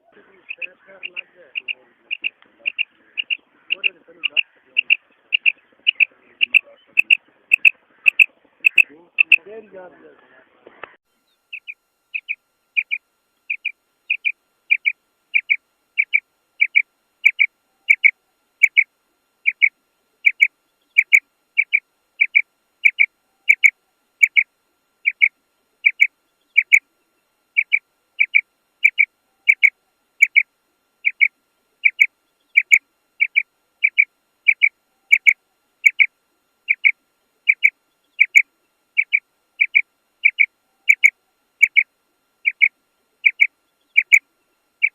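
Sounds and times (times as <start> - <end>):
female quail call: 0.4 - 9.4, 11.5 - 26.8, 27.6 - 36.1, 36.7 - 44.2.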